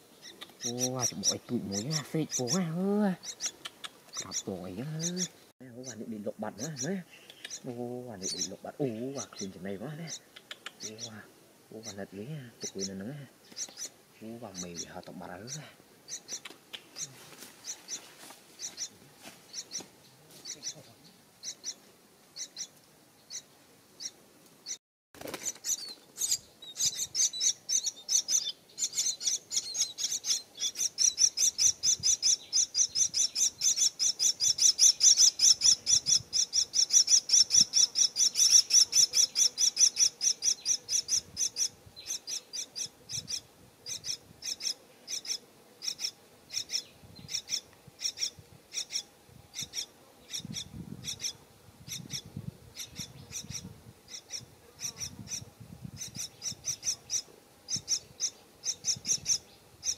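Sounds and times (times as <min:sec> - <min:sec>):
parrot nestlings begging calls: 0:00.0 - 0:11.2, 0:11.8 - 0:18.0, 0:18.6 - 0:18.9, 0:19.5 - 0:20.8, 0:21.4 - 0:21.8, 0:22.4 - 0:22.7, 0:25.4 - 0:55.4, 0:56.0 - 0:59.9.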